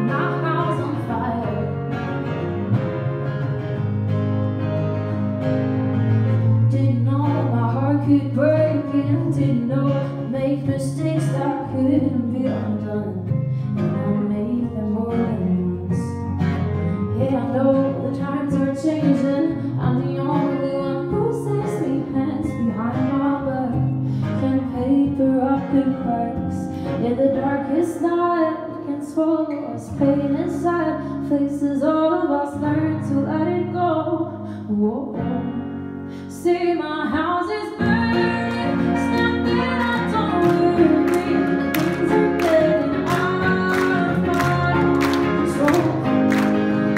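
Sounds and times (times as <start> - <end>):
woman singing: 0.0 - 1.9, 6.6 - 46.9
acoustic guitar: 0.0 - 46.9
electric guitar: 0.0 - 46.9.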